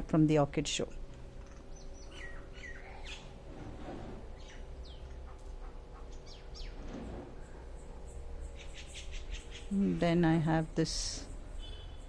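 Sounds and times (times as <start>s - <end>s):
faint steady hum: 0.0s - 12.0s
birds chirping: 1.3s - 3.4s, 4.3s - 12.0s.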